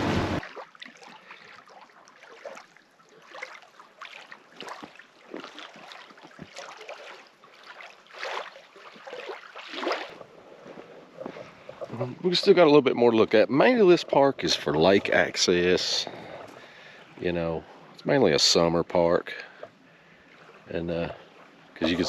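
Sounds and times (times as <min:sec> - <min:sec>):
small waves lapping on shore: 0:00.0 - 0:18.3, 0:19.4 - 0:22.0.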